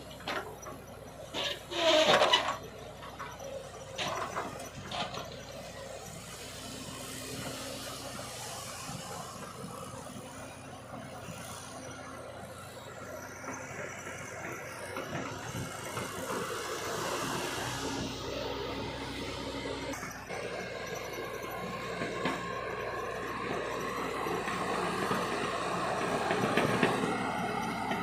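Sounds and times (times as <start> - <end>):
heavy machinery diesel engines: 0.0 - 28.0.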